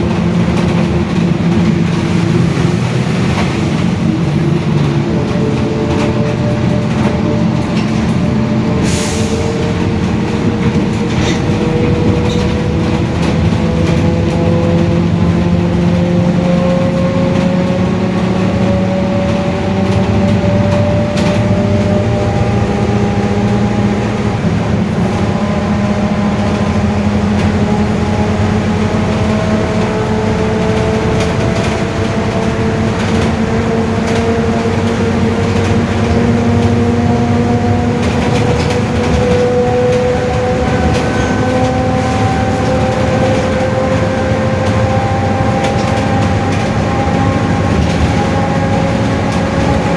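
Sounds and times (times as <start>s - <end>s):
bus differential whining: 0.0s - 49.9s
engine and road drone: 0.0s - 49.9s.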